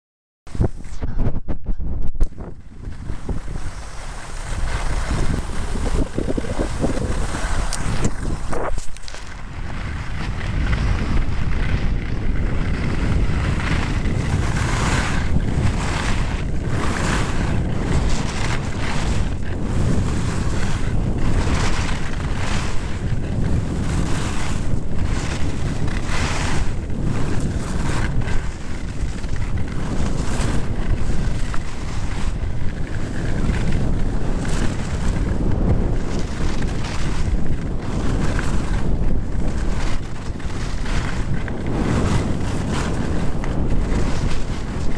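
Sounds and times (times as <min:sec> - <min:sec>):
wind buffeting microphone: 0:00.5 - 0:44.9
skis scraping on packed snow: 0:02.2 - 0:44.9.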